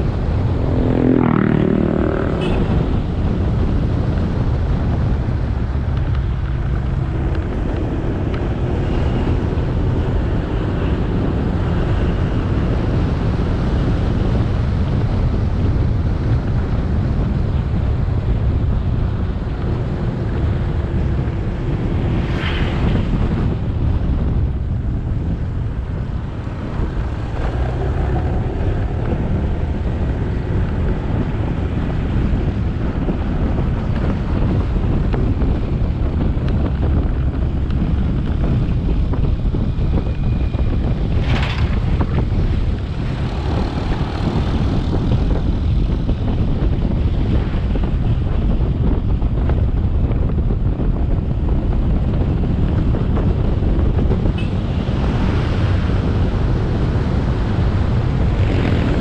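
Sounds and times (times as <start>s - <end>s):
road noise: 0.0s - 59.0s
wind noise on microphone: 0.0s - 59.0s.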